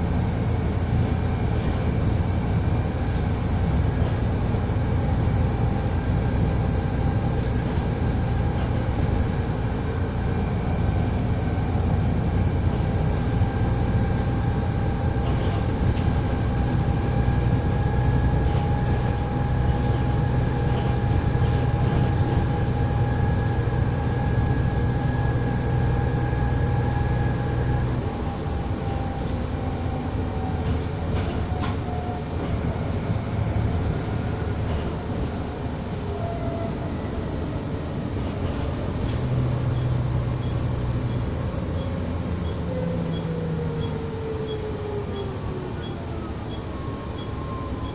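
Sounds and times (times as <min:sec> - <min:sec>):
bus engine drone: 0:00.0 - 0:47.9.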